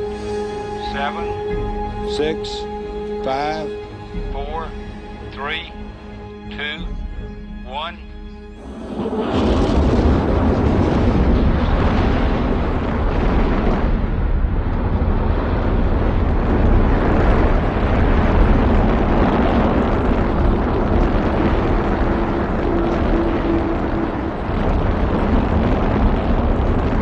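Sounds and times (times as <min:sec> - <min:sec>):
rocket engines rumbling: 0:00.0 - 0:27.0.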